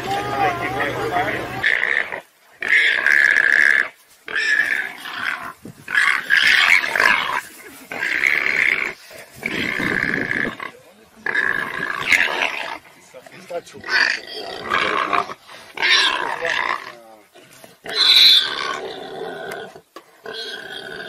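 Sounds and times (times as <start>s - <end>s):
warthog squealing: 1.6s - 17.0s, 17.8s - 21.0s.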